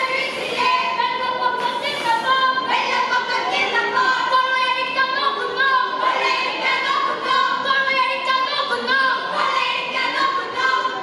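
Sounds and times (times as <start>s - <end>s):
girls singing in unison: 0.0s - 11.0s.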